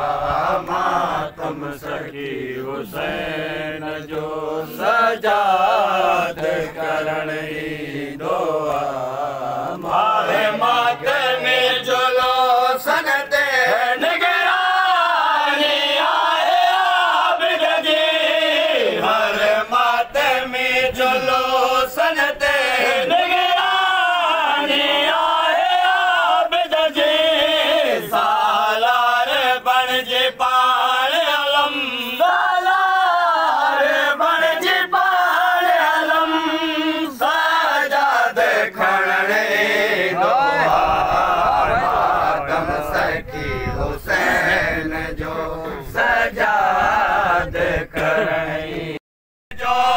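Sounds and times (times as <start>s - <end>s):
men chanting a lament: 0.0s - 49.9s.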